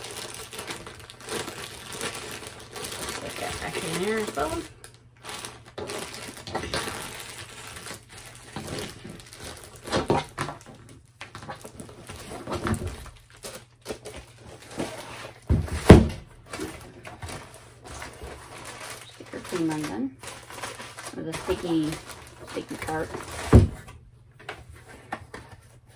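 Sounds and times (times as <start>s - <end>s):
plastic crinkling: 0.0s - 23.8s.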